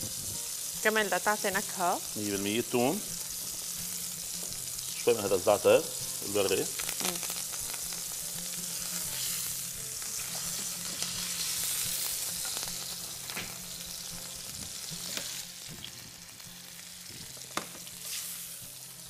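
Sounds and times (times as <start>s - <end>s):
steak sizzling in a frying pan: 0.0s - 19.0s.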